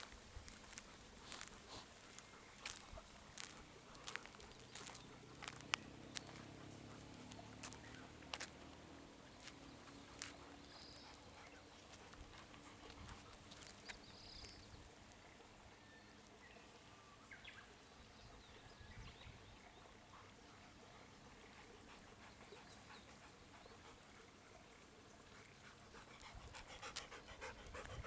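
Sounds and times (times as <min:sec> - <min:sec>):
faint outdoor ambience: 0:00.0 - 0:28.0.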